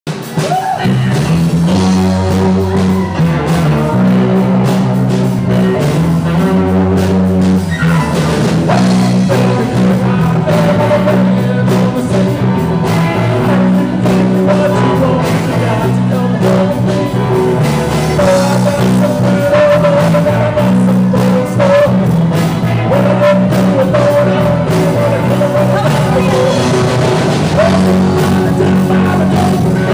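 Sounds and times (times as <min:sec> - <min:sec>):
rock and roll band playing: 0:00.1 - 0:29.9.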